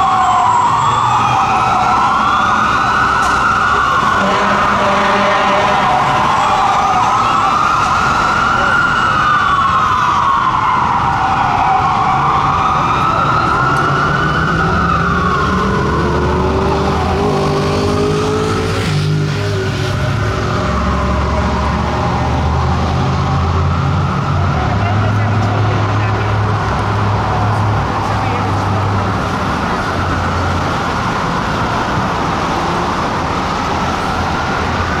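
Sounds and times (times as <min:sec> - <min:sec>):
city road traffic: 0:00.0 - 0:35.0
fire truck siren wailing: 0:00.0 - 0:35.0
heavy engine: 0:00.0 - 0:35.0.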